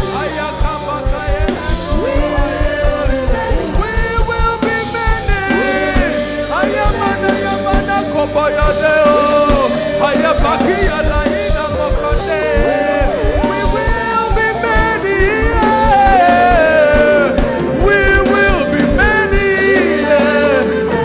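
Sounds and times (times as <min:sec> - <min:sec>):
drum beats: 0:00.0 - 0:21.0
live worship band music: 0:00.0 - 0:21.0
sliding melodic lead line: 0:00.0 - 0:21.0.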